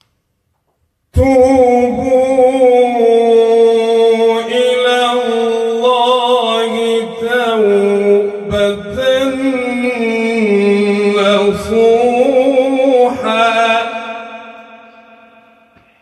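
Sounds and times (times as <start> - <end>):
man chanting recitation: 1.2 - 15.1.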